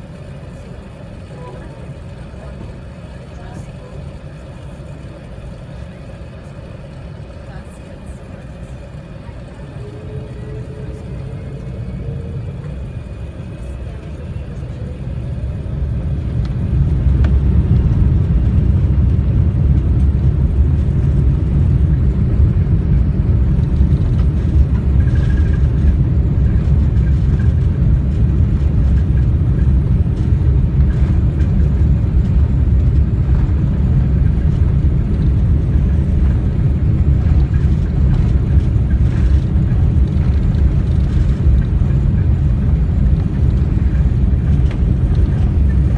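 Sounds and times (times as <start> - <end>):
low rumble of takeoff roll: 0.0 - 45.9.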